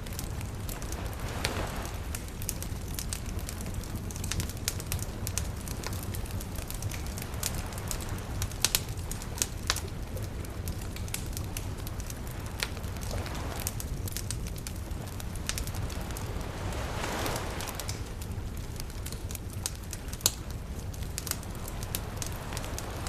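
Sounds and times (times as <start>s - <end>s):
campfire crackling and popping: 0.0s - 23.0s
soft wave wash: 0.0s - 23.0s.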